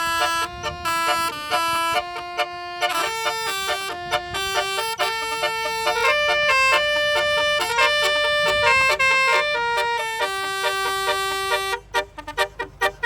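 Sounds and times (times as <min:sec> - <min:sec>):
bus horns playing a tune: 0:00.0 - 0:13.0.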